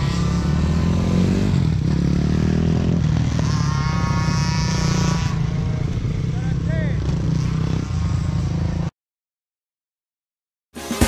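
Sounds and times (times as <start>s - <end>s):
motorbike engines revving: 0.0s - 8.9s
motorbike passing close: 0.0s - 8.9s.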